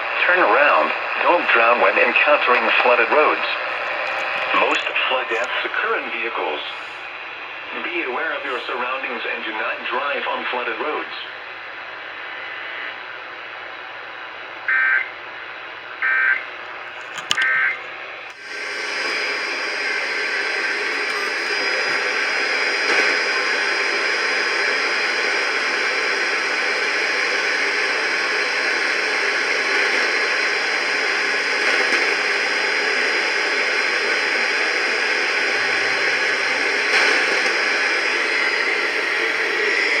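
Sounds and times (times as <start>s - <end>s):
radio static hiss: 0.0s - 40.0s.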